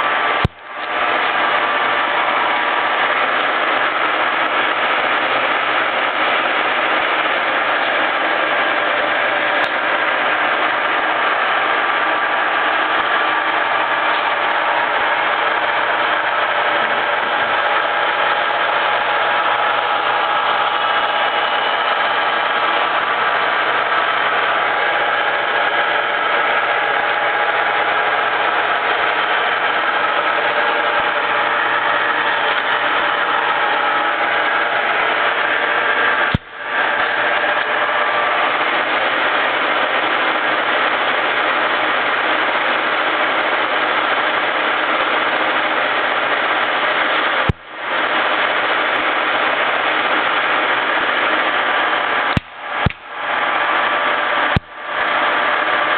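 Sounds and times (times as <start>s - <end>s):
lathe whirring: 0.0s - 55.9s.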